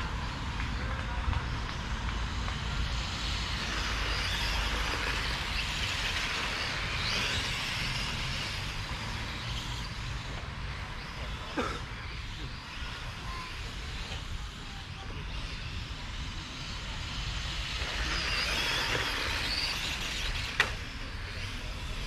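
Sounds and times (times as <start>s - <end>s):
rc car motor whine: 0.0s - 22.0s.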